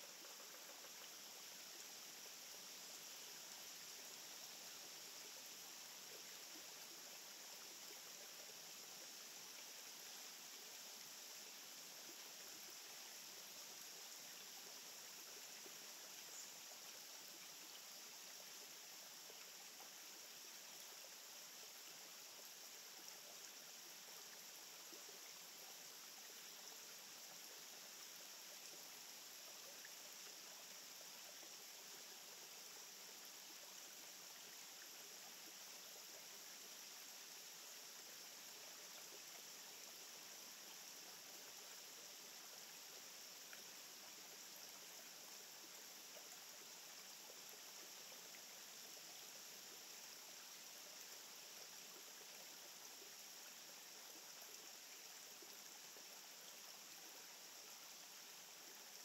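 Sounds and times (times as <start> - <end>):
faint outdoor hiss: 0.0 - 59.0.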